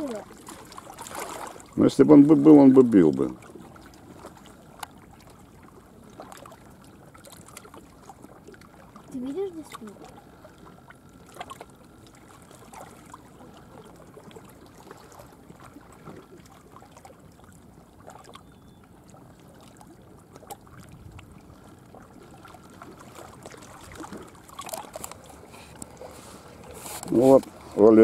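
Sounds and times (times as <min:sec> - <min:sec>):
small waves lapping at shore: 0:00.0 - 0:28.0.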